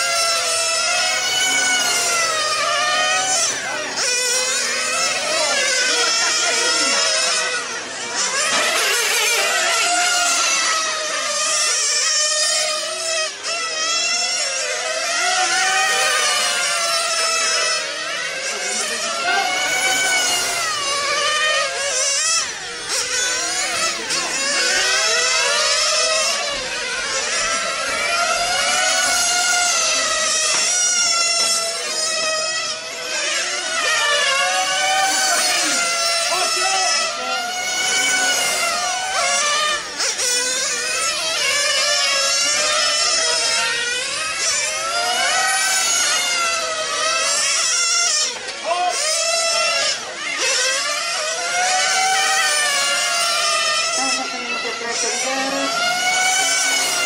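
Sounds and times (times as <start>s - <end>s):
rc car engines revving: 0.0s - 57.0s.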